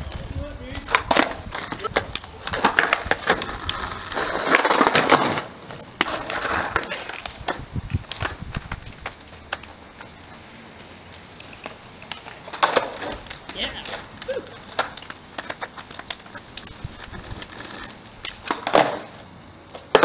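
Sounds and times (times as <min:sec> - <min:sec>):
skateboard rolling on tarmac: 0:00.0 - 0:20.0.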